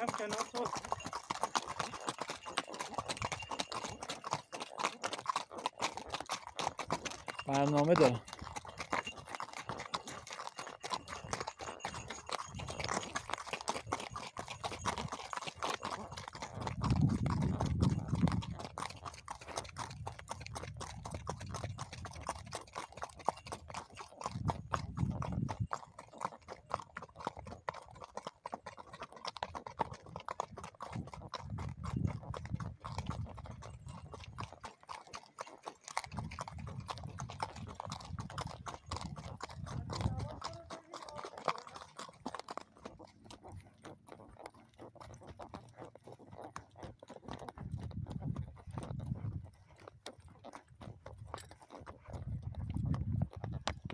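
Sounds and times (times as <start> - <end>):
hooves clip-clopping on dirt: 0.0 - 53.9.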